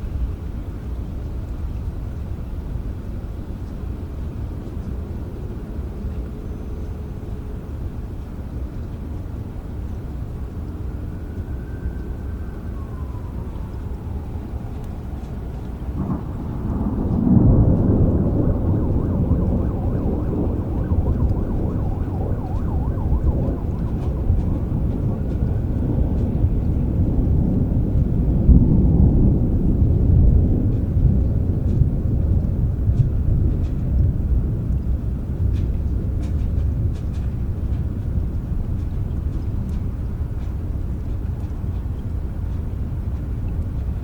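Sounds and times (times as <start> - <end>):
steady rain: 0.0 - 44.0
thunder rumbling: 2.4 - 39.4.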